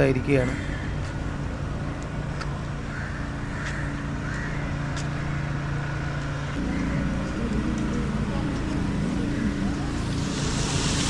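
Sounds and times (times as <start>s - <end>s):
road traffic noise: 0.0s - 11.0s
vehicle engine running: 0.0s - 11.0s.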